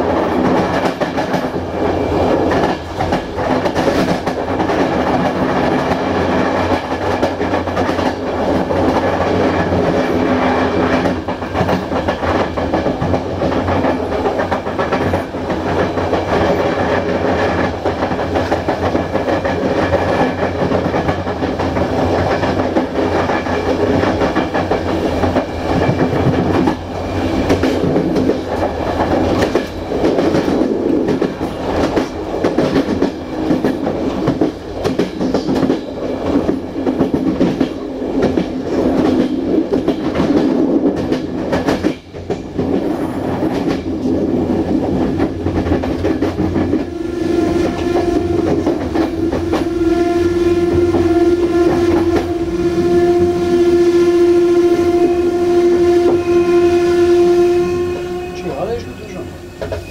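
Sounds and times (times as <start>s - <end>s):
clickety-clack of rail joints: 0.0s - 53.2s, 59.5s - 59.9s
train wheels rumbling on rail: 0.0s - 59.9s.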